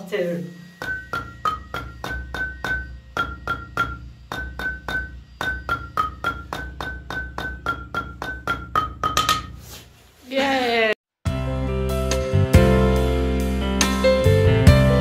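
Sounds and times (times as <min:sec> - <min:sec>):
keyboard music with quick notes: 0:00.7 - 0:09.6, 0:11.3 - 0:15.0.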